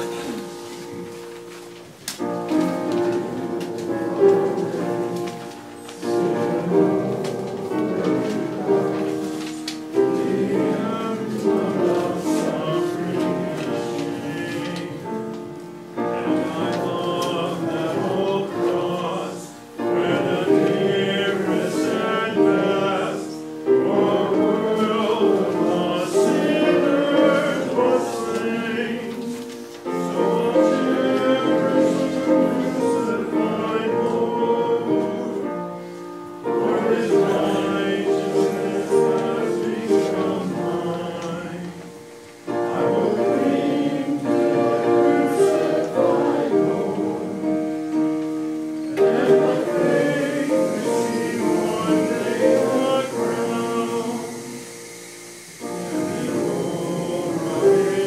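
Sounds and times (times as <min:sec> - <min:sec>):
voices singing a hymn: 0:00.0 - 0:58.0.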